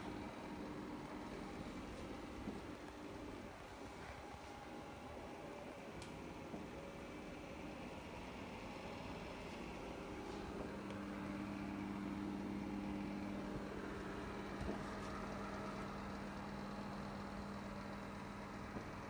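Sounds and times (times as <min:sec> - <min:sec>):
fan heater running: 0:00.0 - 0:19.0.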